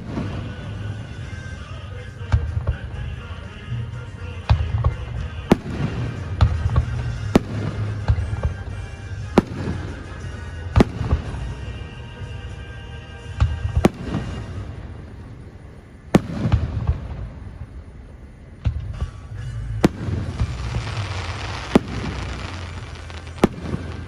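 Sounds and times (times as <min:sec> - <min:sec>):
fireworks booming and cracking: 0:00.0 - 0:24.0
low rumble: 0:00.0 - 0:24.0.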